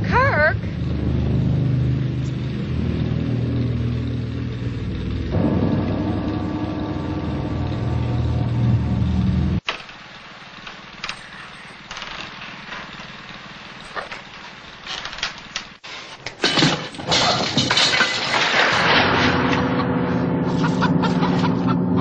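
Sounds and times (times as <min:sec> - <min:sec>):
generator engine droning: 0:00.0 - 0:15.6, 0:16.5 - 0:22.0
clatter: 0:00.7 - 0:19.9.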